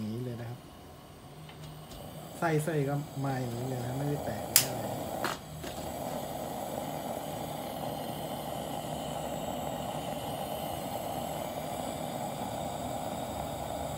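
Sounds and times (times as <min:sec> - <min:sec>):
gas lantern hissing: 0:00.0 - 0:13.9.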